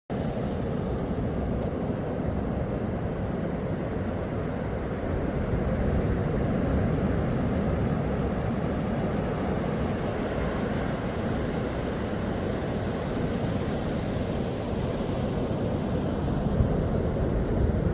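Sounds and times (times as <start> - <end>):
sea wind: 0.1 - 17.9
surf rumbling: 0.1 - 17.9.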